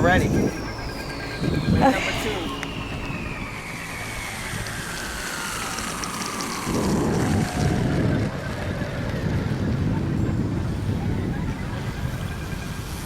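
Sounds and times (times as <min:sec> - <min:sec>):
electric model airplane motor whine: 0:00.0 - 0:13.0
wind buffeting microphone: 0:00.0 - 0:13.0.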